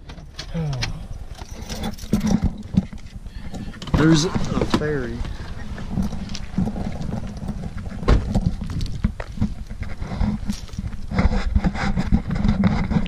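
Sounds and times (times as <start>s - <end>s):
microphone handling knocks: 2.2s - 13.0s
wind buffeting microphone: 2.3s - 13.0s.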